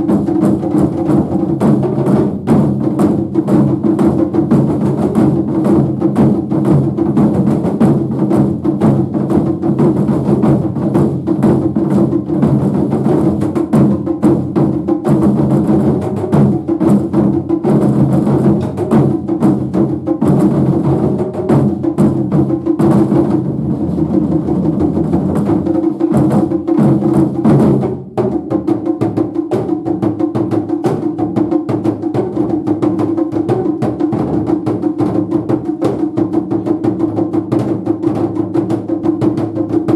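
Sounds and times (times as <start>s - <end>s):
taiko drum ensemble: 0.0s - 39.9s.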